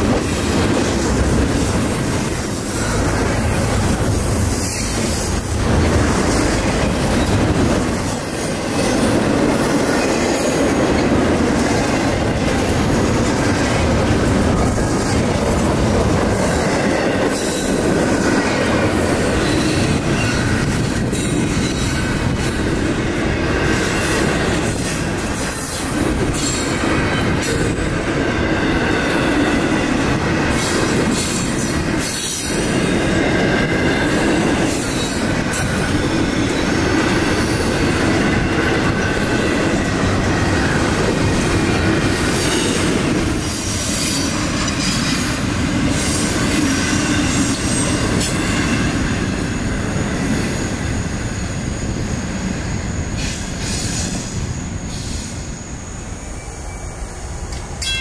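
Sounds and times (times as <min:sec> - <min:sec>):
train cars rolling on rails: 0:00.0 - 0:58.0.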